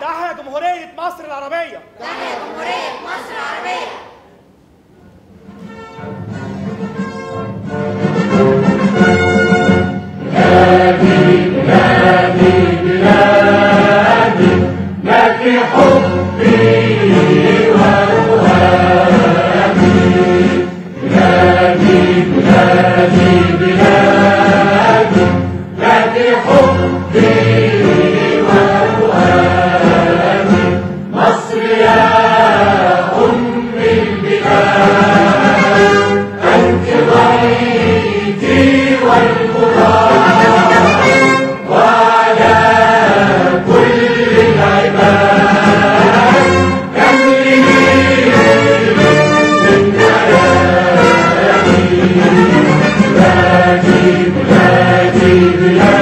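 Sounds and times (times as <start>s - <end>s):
choir singing with orchestra: 6.0s - 56.0s.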